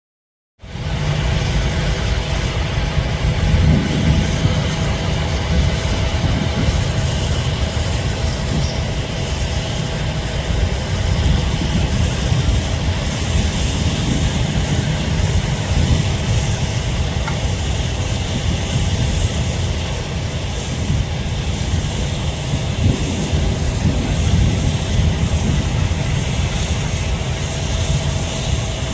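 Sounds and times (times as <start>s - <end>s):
jet engines rumbling: 0.6s - 28.9s.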